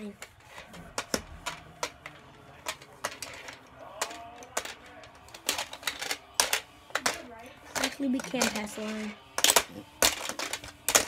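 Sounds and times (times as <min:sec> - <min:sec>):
plastic toy hockey pieces clicking: 0:00.2 - 0:11.0.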